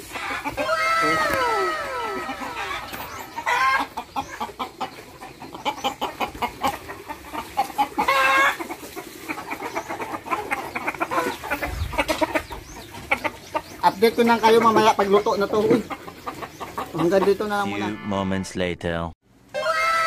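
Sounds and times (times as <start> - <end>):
chicken squawks: 0.0 - 18.0, 19.5 - 20.0
chickens clucking: 0.0 - 18.1, 19.6 - 20.0.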